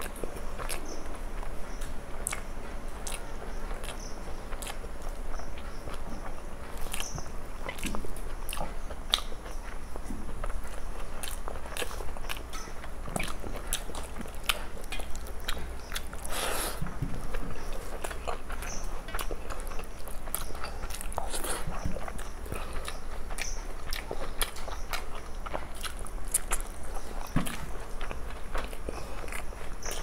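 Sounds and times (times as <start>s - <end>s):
chewing and lip-smacking: 0.0s - 30.0s.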